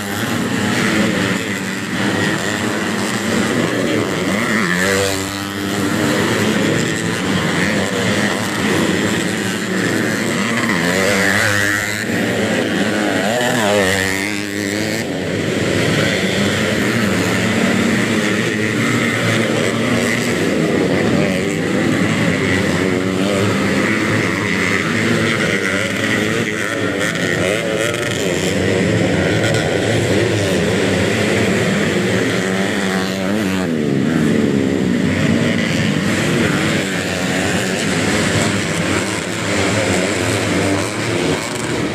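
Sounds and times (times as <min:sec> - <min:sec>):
motocross bikes revving: 0:00.0 - 0:41.9.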